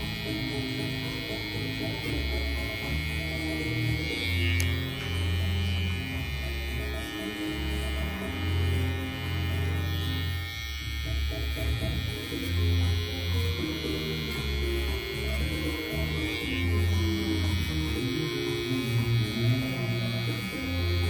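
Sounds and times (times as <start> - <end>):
background music with bass line: 0.0 - 21.0
electric hair clippers buzzing: 0.0 - 21.0.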